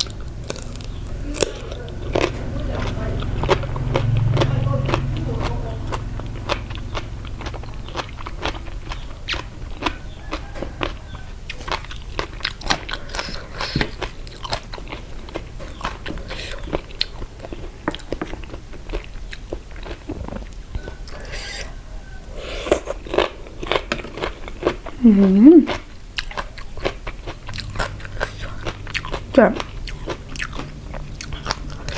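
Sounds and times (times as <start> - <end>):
person chewing crunchy food: 0.0 - 31.9.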